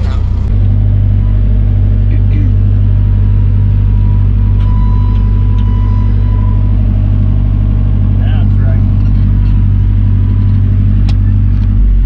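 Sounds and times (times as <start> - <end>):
thin steady whine: 0.0 - 12.0
tractor engine running: 0.0 - 12.0.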